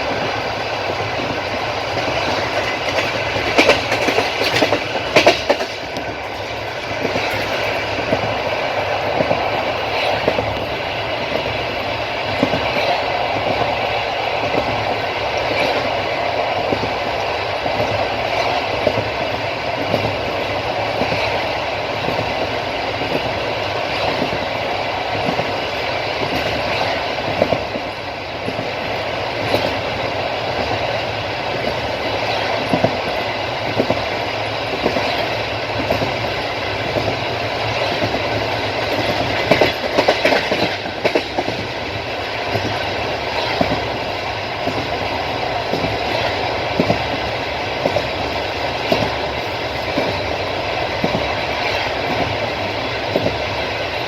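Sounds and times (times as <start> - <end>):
train wagons rumbling: 0.0 - 54.0
wheels clicking over rail joints: 0.0 - 54.0.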